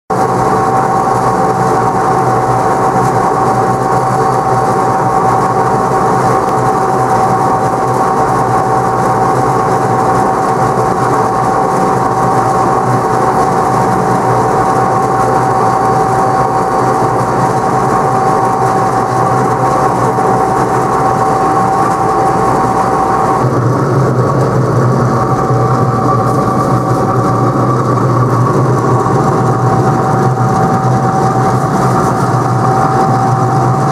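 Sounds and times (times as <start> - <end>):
high whine: 0.1 - 33.9
roller mill mechanical drone: 0.1 - 33.9.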